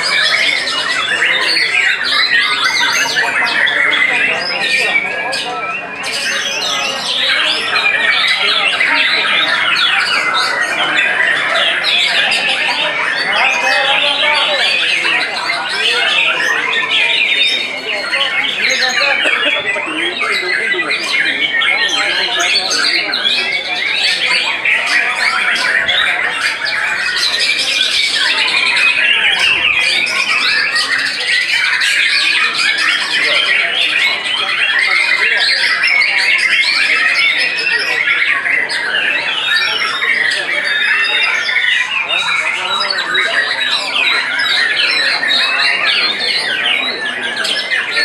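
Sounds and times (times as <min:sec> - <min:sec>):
birds singing whistles and trills: 0:00.0 - 0:48.0.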